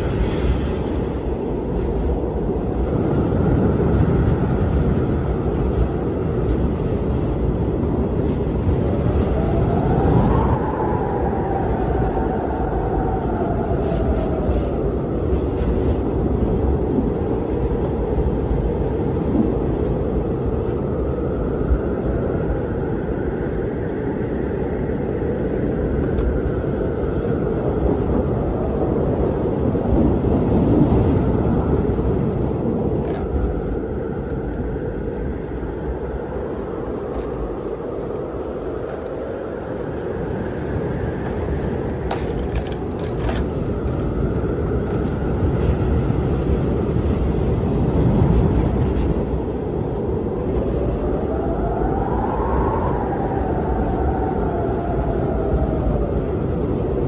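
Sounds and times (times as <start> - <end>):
howling wind: 0.0 - 57.0.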